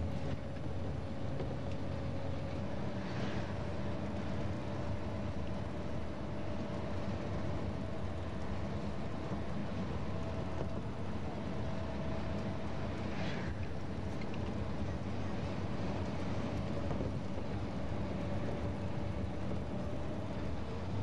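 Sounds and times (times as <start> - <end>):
road noise: 0.0 - 21.0
vehicle engine drone: 0.0 - 21.0.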